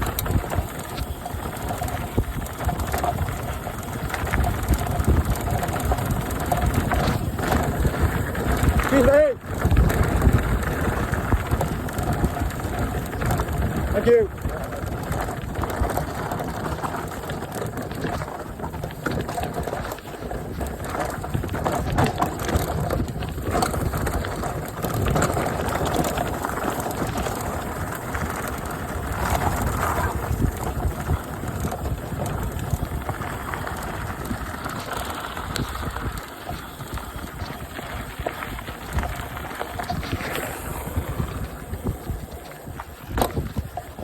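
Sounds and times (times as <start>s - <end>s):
bike rattling over ground: 0.0s - 44.0s
bike tyres crunching: 0.0s - 44.0s
wind buffeting microphone: 0.0s - 44.0s.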